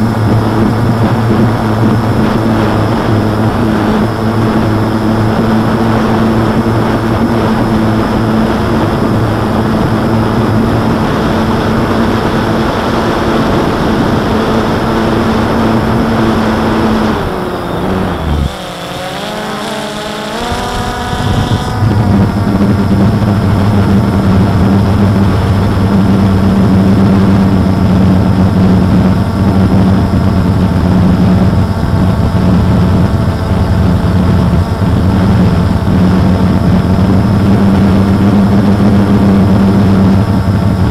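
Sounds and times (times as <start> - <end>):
drone propellers droning: 0.0 - 40.9.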